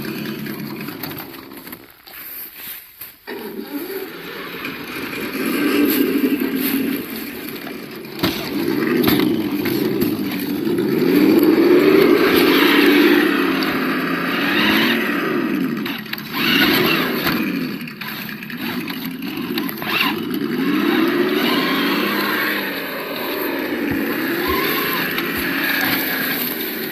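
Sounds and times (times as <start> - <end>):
simulated engine from speaker: 0.0 - 1.9, 3.3 - 26.9.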